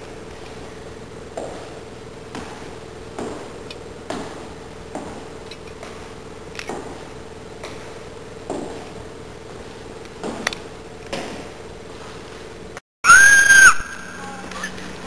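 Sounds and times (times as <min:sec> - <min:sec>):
footsteps going down stairs: 0:00.0 - 0:12.4
steady hum: 0:00.0 - 0:15.0.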